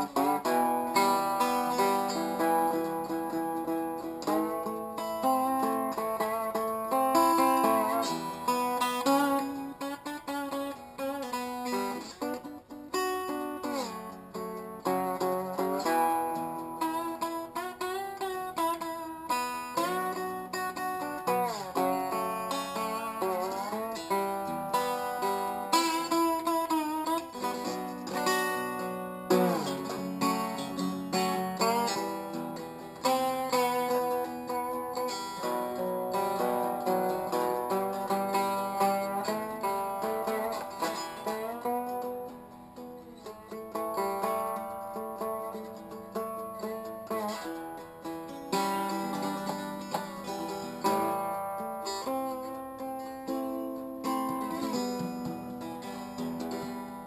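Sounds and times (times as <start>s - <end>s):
lap steel guitar: 0.0s - 57.0s.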